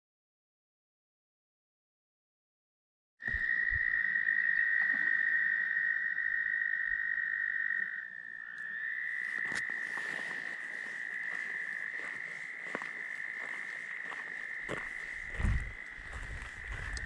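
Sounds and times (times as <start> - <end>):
tree frogs trilling: 3.2 - 17.0.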